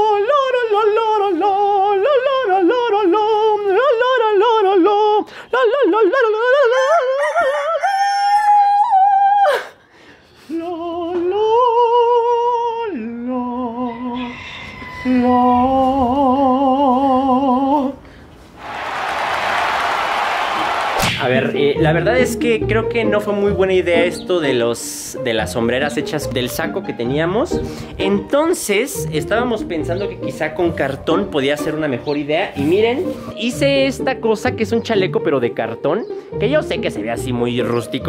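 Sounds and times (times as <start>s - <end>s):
man singing wordless melody: 0.0s - 9.7s, 10.4s - 18.1s, 21.2s - 38.0s.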